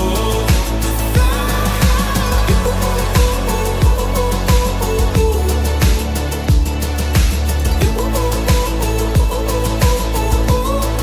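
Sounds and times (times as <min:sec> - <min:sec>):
pop song with bass and kick drum: 0:00.0 - 0:11.0.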